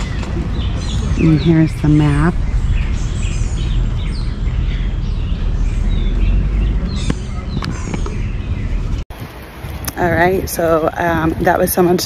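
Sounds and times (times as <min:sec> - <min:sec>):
low rumble: 0:00.0 - 0:11.5
birds chirping: 0:00.0 - 0:12.0.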